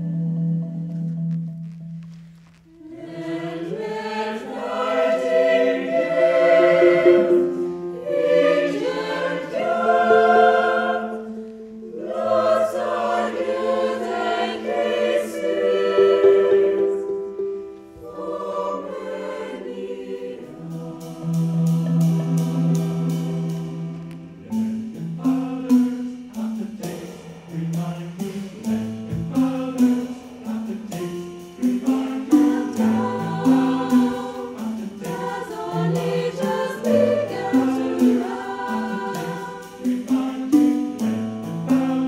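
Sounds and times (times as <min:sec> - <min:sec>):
mixed choir singing: 0:02.8 - 0:42.0.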